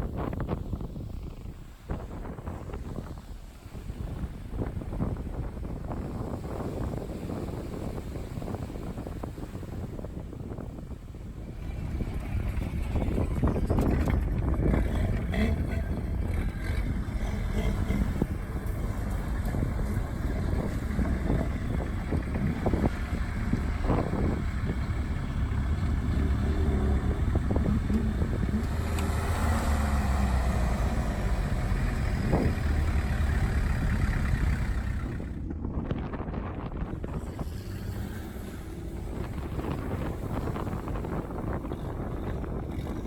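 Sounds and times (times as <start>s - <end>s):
vehicle engine and road rumble: 0.0s - 43.0s
wind buffeting microphone: 0.0s - 43.0s.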